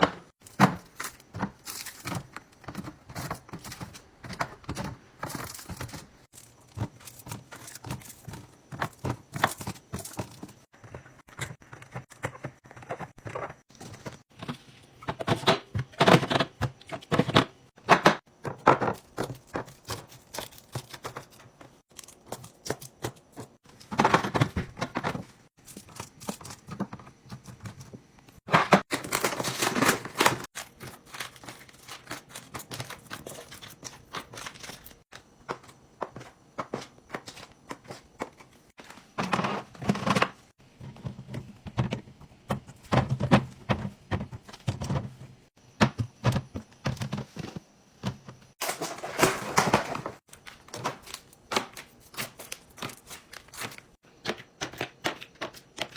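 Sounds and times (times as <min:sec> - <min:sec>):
items set down with clicks and taps: 0:00.0 - 0:55.9.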